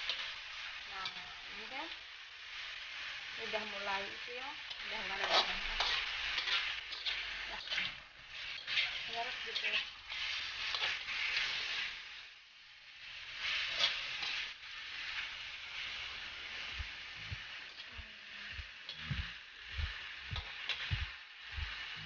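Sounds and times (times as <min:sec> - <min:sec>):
metal spatula scraping a wok: 0:00.0 - 0:12.3, 0:13.2 - 0:19.4, 0:20.4 - 0:21.0
chicken sizzling in oil: 0:00.0 - 0:22.0.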